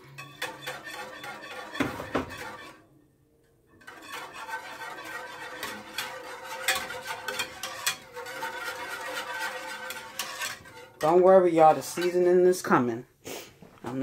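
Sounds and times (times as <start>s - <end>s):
whisk scraping in pan: 0.0s - 2.9s, 3.8s - 12.7s.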